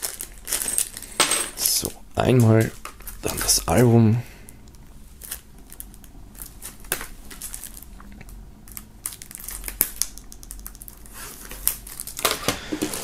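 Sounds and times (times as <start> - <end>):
shrink wrap crinkling: 0.0 - 13.0.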